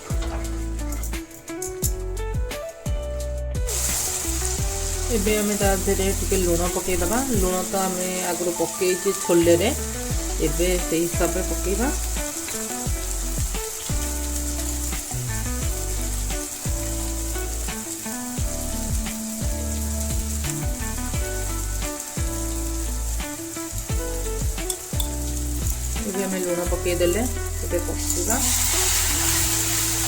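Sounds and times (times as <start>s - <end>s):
background music with deep bass: 0.0s - 30.0s
spices sizzling in oil: 0.0s - 30.0s.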